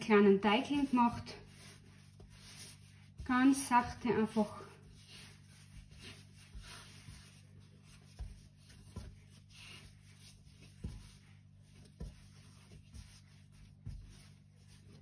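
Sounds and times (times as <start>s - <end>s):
hands rubbing dough: 0.0s - 15.0s
soft dough thuds: 0.0s - 15.0s.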